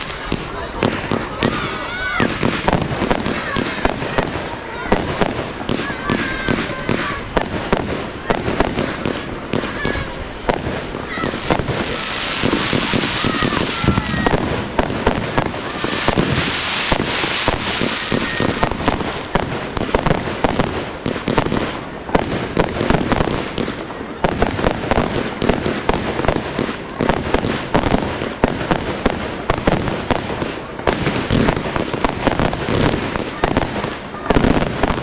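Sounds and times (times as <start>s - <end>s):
fireworks bangs and crackles: 0.0s - 35.0s
fireworks hissing: 0.0s - 35.0s.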